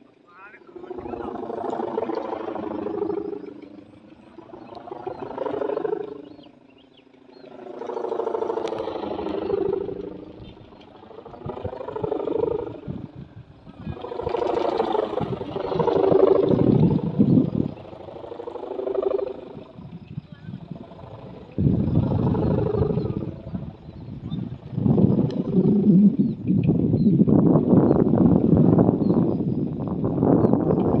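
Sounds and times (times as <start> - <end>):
hummer bow droning in wind: 6.1 - 31.0.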